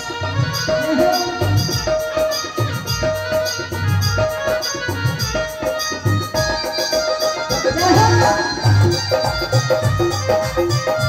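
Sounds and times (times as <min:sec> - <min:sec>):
hand drum beats: 0:00.0 - 0:11.0.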